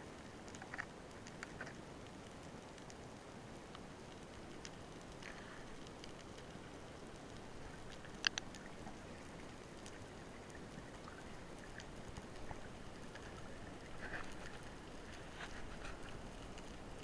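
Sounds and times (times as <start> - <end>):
faint crackling ticks: 0.0 - 17.0.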